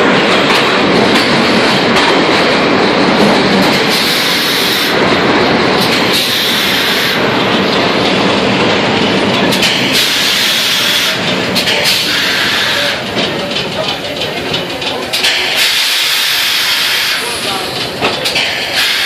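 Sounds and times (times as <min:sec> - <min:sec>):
subway wheels on rails: 0:00.0 - 0:19.0.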